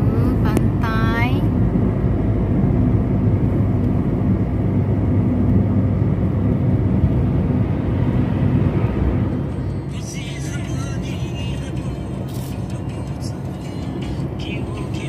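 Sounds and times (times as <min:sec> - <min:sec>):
car engine and tyre road noise: 0:00.0 - 0:15.0.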